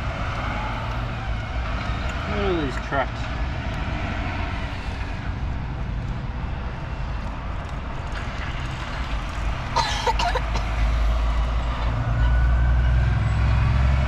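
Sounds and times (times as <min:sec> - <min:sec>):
heavy trucks rumbling past: 0:00.0 - 0:14.0.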